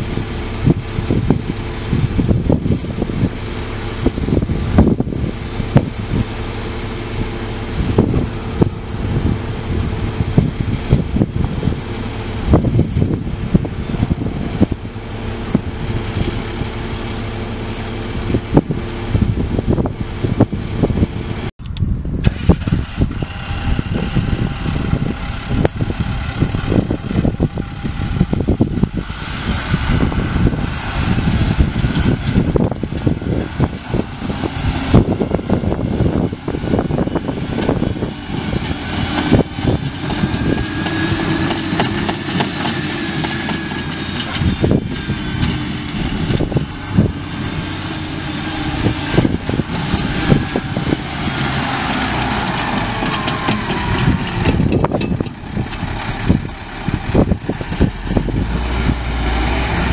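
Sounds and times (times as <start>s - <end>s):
diesel truck engine running: 0.0s - 59.9s
engine knocks and rattles: 0.0s - 59.9s.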